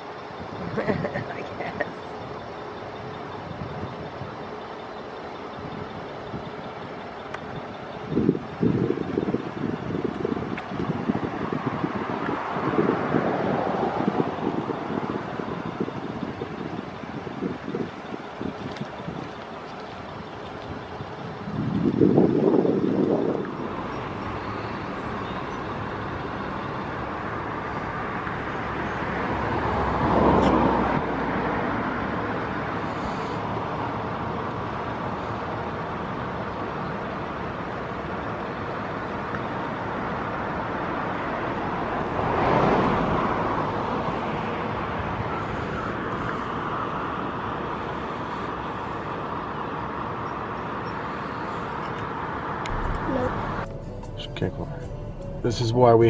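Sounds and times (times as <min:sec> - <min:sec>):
outdoor background noise: 0:00.0 - 0:56.0
vehicles passing by: 0:00.0 - 0:56.0.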